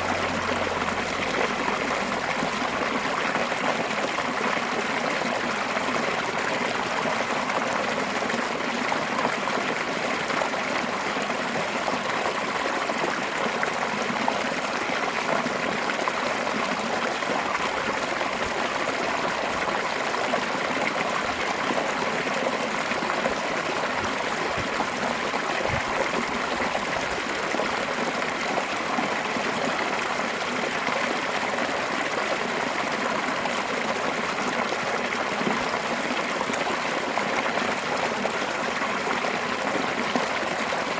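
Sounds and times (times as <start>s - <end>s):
stream water rushing and splashing: 0.0s - 40.9s.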